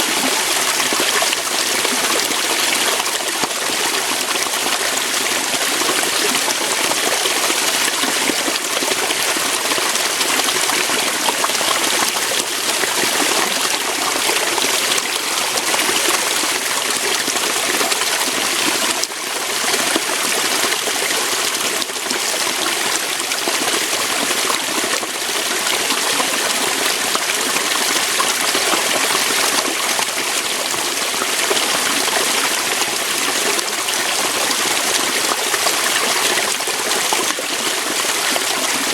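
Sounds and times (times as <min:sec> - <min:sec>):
waterfall pouring over rocks: 0:00.0 - 0:38.9.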